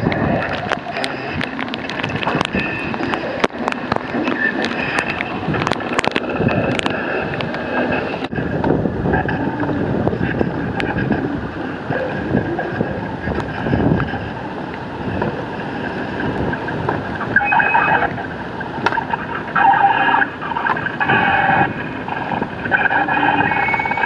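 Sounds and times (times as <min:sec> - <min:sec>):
crackling noise music: 0:00.0 - 0:24.0
high drones: 0:00.0 - 0:24.0
wind buffeting microphone: 0:00.0 - 0:24.0.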